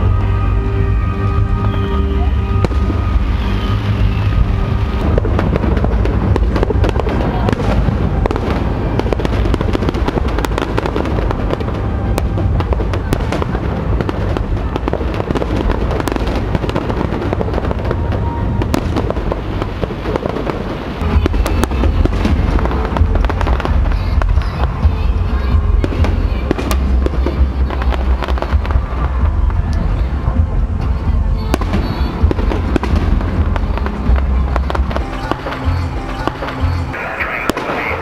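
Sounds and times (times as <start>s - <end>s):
deep rumble: 0.0s - 38.0s.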